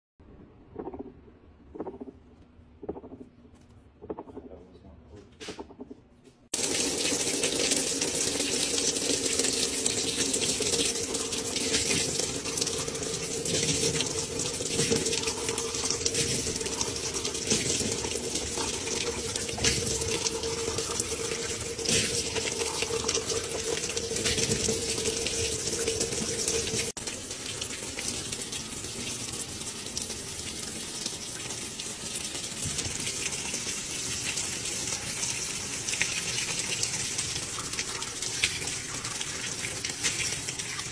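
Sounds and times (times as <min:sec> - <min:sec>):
water pouring into metal tub: 0:06.6 - 0:40.9.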